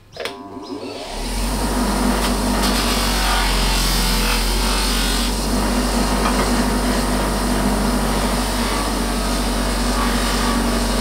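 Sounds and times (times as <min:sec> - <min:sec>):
polishing machine motor hum: 0:00.4 - 0:11.0.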